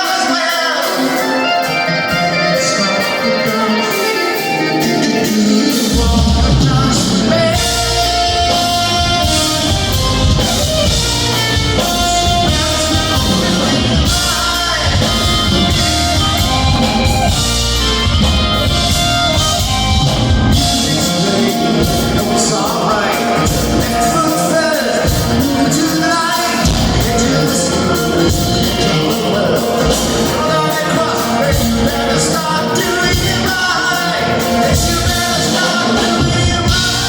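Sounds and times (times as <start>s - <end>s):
live rock band playing: 0.0s - 37.0s
bass and drums: 4.8s - 37.0s.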